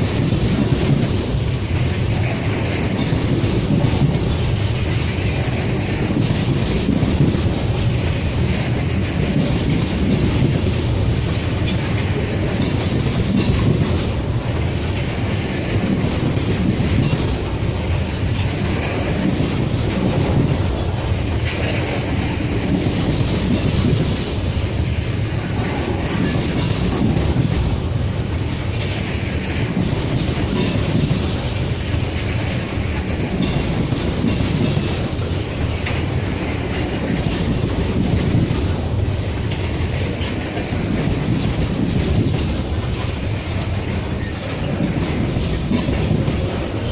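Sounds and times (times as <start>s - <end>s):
freight train rumbling past: 0.0s - 46.9s
wheels clacking over rail joints: 0.0s - 46.9s.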